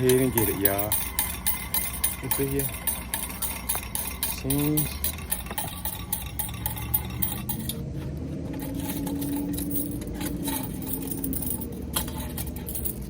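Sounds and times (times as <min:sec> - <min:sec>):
coins clinking and rattling: 0:00.0 - 0:13.0.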